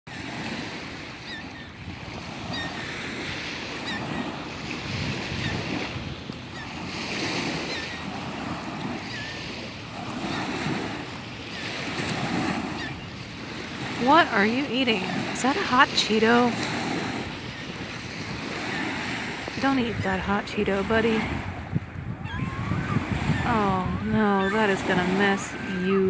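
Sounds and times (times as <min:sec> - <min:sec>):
waves washing on shore: 0:00.1 - 0:26.0
wind on microphone: 0:00.1 - 0:26.0.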